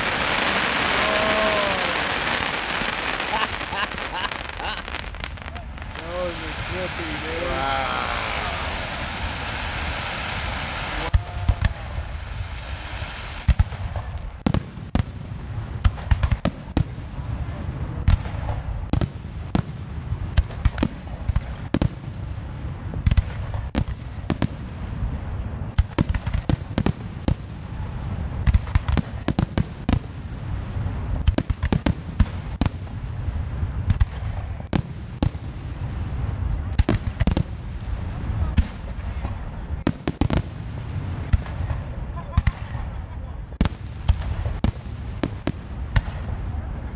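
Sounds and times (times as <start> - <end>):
fireworks bursting bangs: 0.0 - 46.9.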